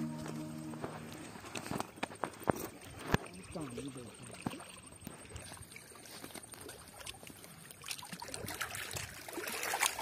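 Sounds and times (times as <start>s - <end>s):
faint trickling water: 0.0s - 10.0s.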